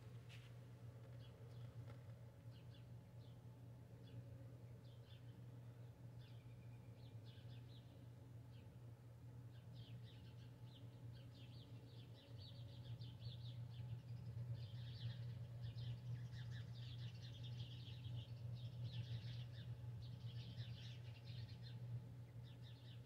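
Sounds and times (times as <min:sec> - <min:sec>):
steady low hum: 0:00.0 - 0:23.0
birds chirping and twittering: 0:01.0 - 0:08.8, 0:09.5 - 0:23.0.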